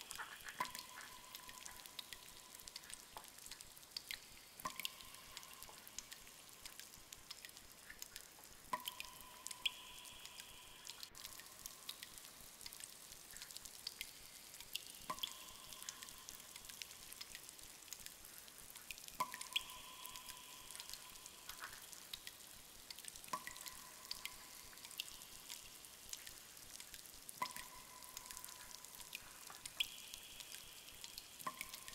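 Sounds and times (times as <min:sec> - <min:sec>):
small water drips: 0:00.0 - 0:31.9.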